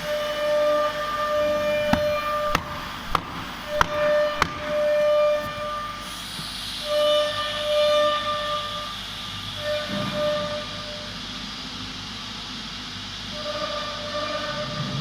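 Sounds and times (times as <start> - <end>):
hiss: 0.0 - 15.0.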